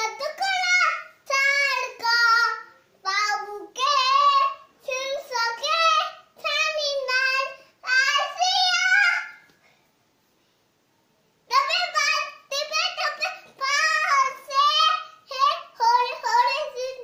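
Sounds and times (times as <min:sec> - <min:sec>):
girl singing unaccompanied: 0:00.0 - 0:09.6, 0:11.5 - 0:17.0.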